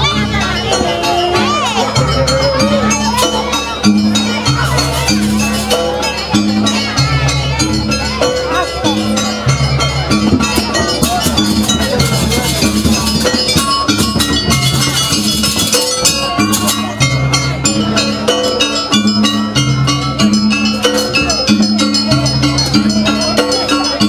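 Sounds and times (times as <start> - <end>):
gamelan gongs and percussion: 0.0 - 24.0.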